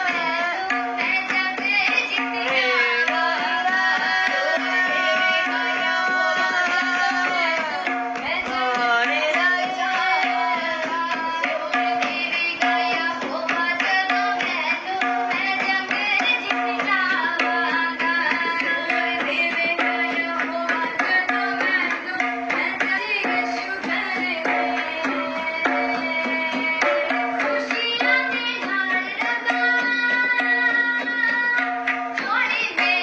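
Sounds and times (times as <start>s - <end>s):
tabla playing a steady beat: 0.0s - 33.0s.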